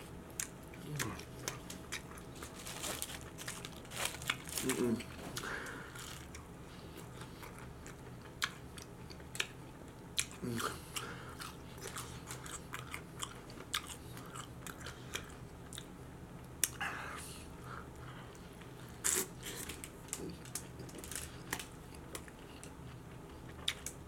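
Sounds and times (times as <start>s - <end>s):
crunchy chewing: 0.3s - 15.9s, 18.0s - 24.0s.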